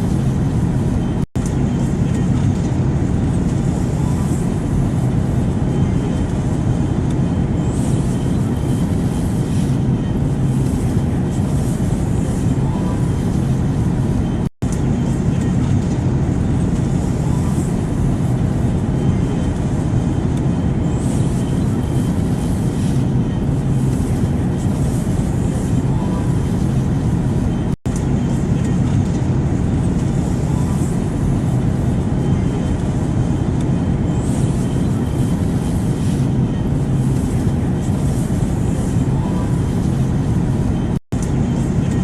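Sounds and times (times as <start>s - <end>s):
airplane rushing drone: 0.0s - 42.0s.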